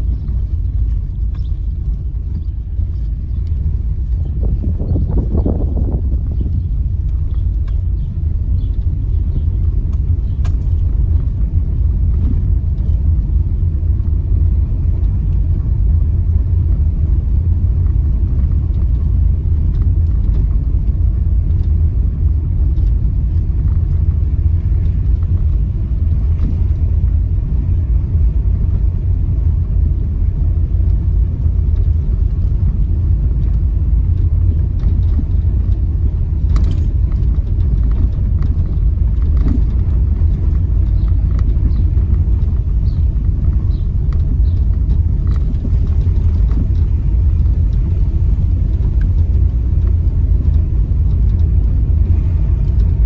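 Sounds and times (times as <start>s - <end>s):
car tyres rumbling on cobblestones: 0.0s - 53.0s.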